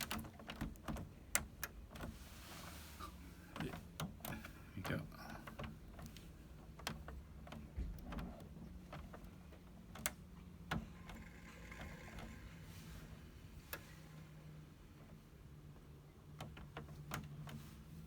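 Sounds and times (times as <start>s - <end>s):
extractor fan humming: 1.1s - 18.0s.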